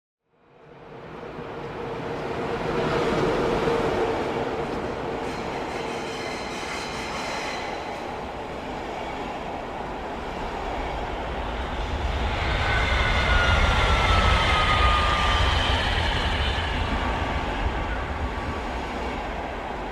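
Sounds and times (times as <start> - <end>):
high-pitched train whine: 0.6 - 19.9
train rumbling on rails: 0.6 - 19.9.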